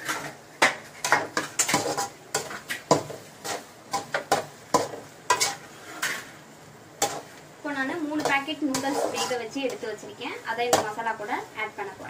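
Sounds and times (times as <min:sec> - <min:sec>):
metal spatula scraping a pan: 0:00.0 - 0:06.4, 0:07.0 - 0:07.3, 0:08.0 - 0:11.1.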